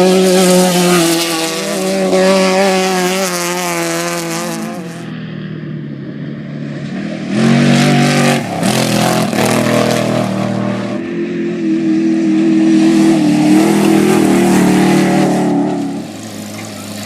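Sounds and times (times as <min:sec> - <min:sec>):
race vehicle engine running hard: 0:00.0 - 0:17.0
wind and road noise: 0:00.0 - 0:17.0.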